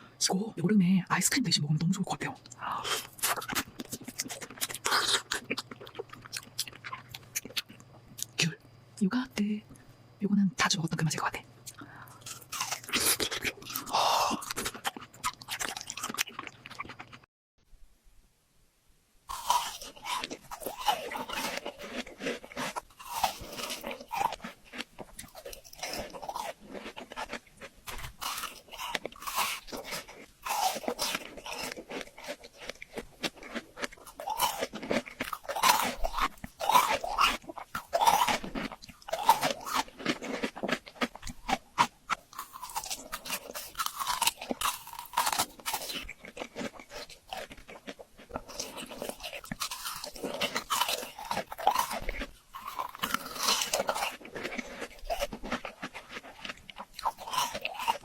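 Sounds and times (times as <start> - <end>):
crunching frozen fruit: 2.2 - 8.3, 11.7 - 17.2, 19.3 - 58.0.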